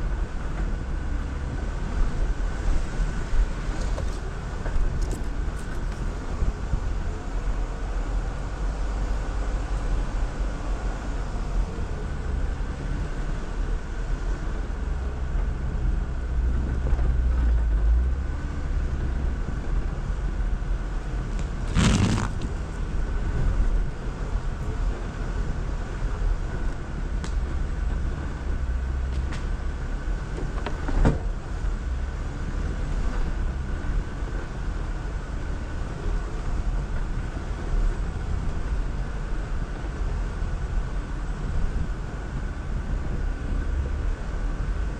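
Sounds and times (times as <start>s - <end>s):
engine low rumble: 0.0s - 44.9s.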